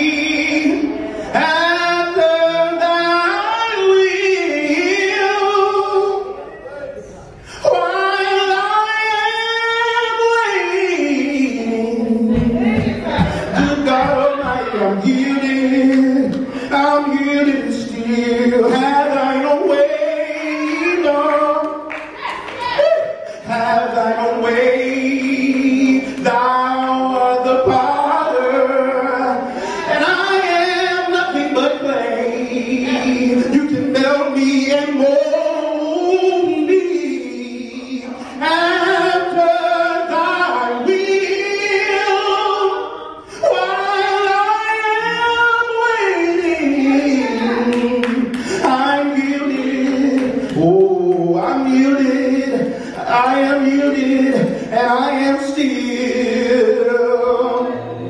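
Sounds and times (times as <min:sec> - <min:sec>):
man singing into a microphone: 0:00.0 - 0:06.6, 0:07.4 - 0:21.9, 0:22.7 - 0:58.0.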